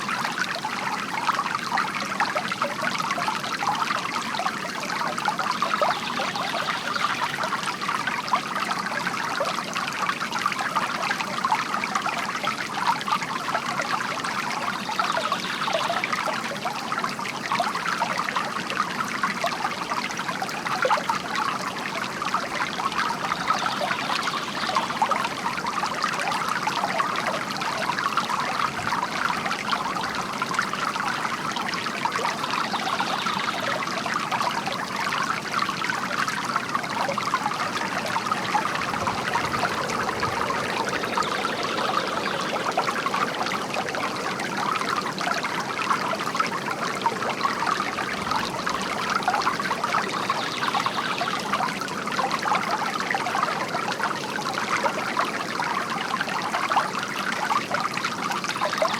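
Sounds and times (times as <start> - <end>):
fountain water trickling: 0.0 - 58.9.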